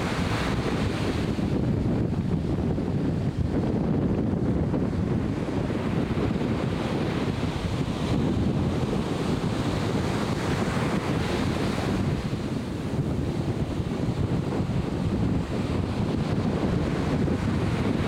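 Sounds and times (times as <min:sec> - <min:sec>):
ocean surf washing ashore: 0:00.0 - 0:18.0
wind buffeting microphone: 0:00.0 - 0:18.0.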